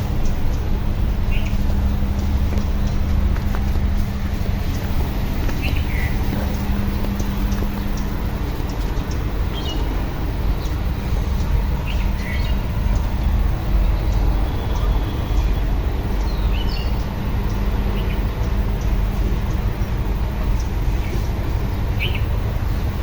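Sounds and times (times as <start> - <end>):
small birds chirping: 0.0 - 23.0
tractor diesel engine rumbling: 0.0 - 23.0.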